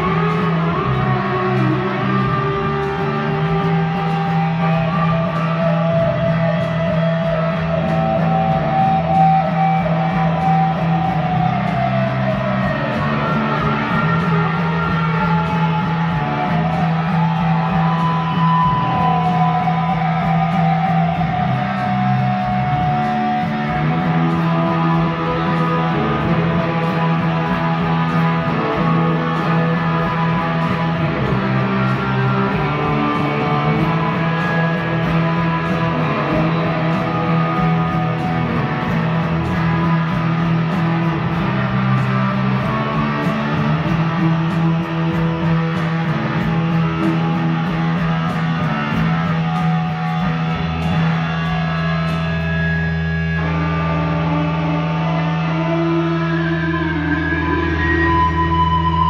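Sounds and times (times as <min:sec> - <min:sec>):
guitar rock music: 0:00.0 - 0:59.0.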